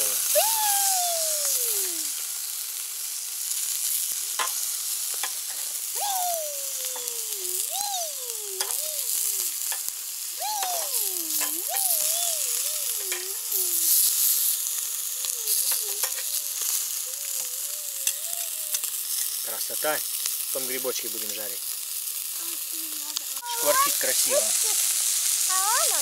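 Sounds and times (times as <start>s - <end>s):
food sizzling in pan: 0.0s - 26.0s.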